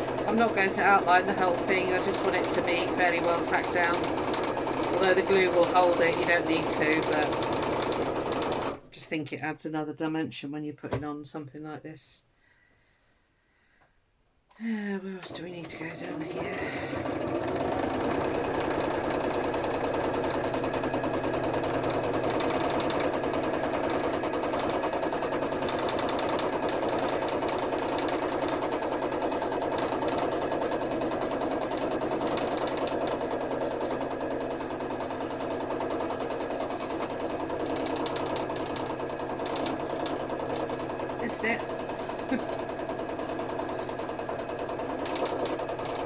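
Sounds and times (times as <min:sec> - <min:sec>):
sewing machine stitching: 0:00.0 - 0:08.9, 0:15.2 - 0:46.0.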